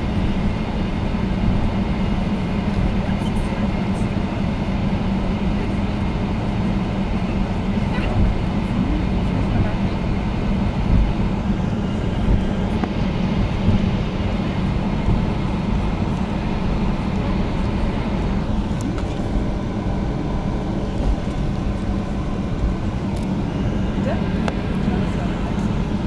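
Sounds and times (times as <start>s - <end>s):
faint steady engine whine: 0.0s - 26.0s
jet engine low rumble: 0.0s - 26.0s.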